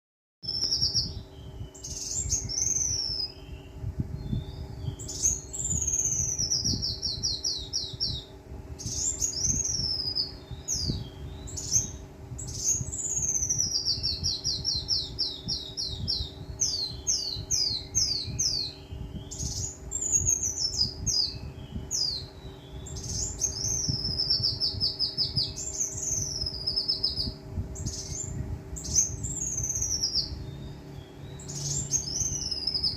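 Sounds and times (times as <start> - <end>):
bird singing high trills: 0.4 - 32.9
steady low hum: 0.4 - 32.9.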